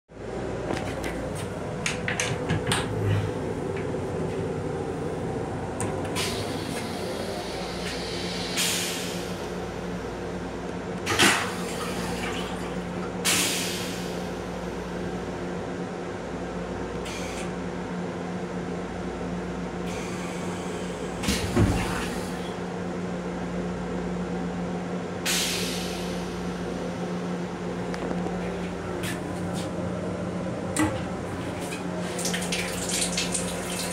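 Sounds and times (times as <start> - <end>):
railcar rumble and hum: 0.1 - 33.9.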